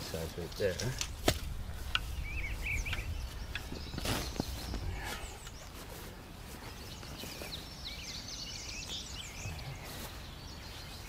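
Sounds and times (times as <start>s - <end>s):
outdoor background noise: 0.0s - 11.0s
songbird twittering: 1.6s - 11.0s.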